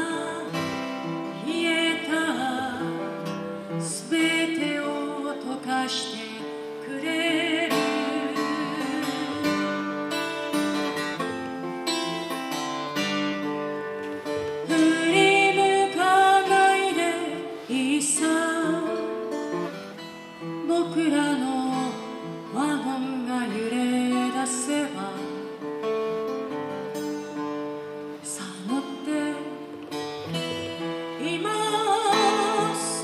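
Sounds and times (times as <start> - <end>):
woman singing: 0.0 - 10.4, 14.5 - 19.8, 20.4 - 26.2, 28.0 - 33.0
acoustic guitar strummed and picked: 0.0 - 33.0.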